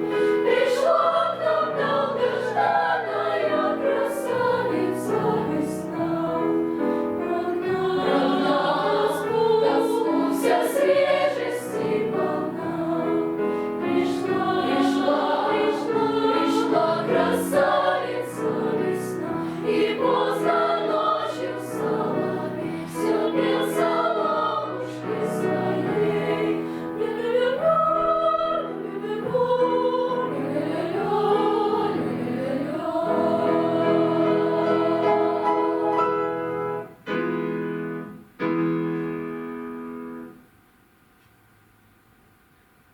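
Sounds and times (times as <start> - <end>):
children's choir singing: 0.0 - 36.8.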